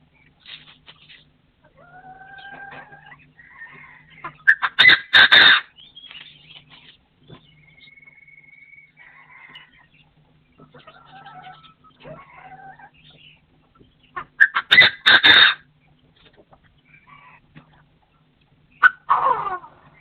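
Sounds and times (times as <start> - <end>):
partridges calling: 0.0 - 20.0.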